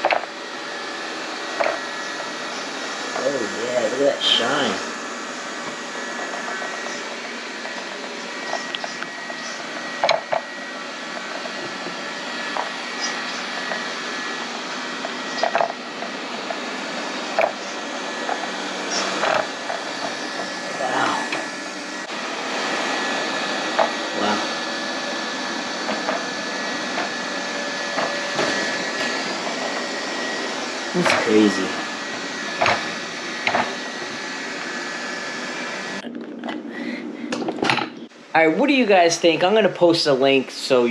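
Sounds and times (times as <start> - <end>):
robot vacuum whirring: 0.0 - 36.2.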